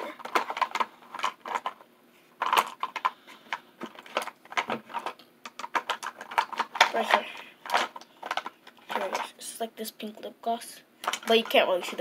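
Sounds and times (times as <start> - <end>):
makeup items clattering: 0.0 - 1.8, 2.4 - 9.4, 11.0 - 12.0.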